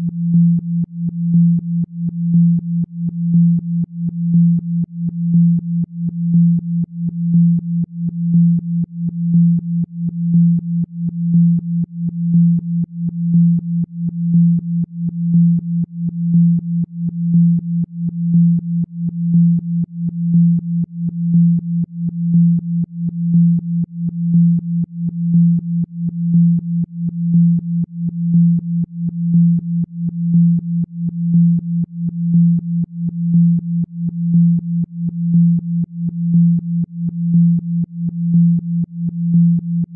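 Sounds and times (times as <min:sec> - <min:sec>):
low pulsing electronic tone: 0:00.0 - 0:39.9.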